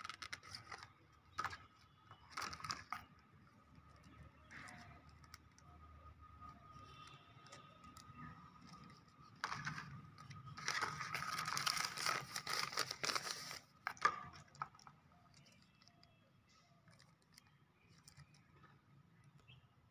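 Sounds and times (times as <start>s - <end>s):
plastic and paper packaging crinkling: 0.0s - 19.4s
faint handling noise: 0.0s - 19.5s.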